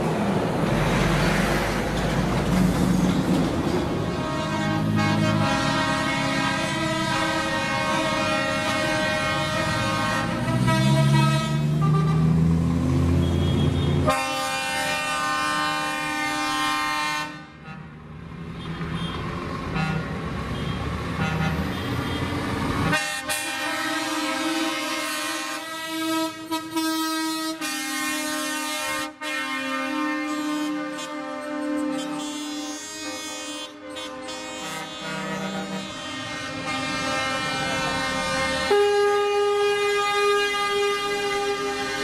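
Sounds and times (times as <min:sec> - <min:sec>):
diesel engines rumbling: 0:00.0 - 0:42.0
truck air horn blasts: 0:04.0 - 0:12.5, 0:13.2 - 0:17.9, 0:18.6 - 0:22.3, 0:22.9 - 0:42.0.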